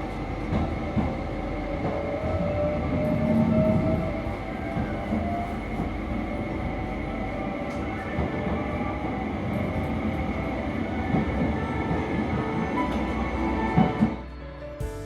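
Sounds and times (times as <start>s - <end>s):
train wheels rumbling on rail: 0.0s - 14.2s.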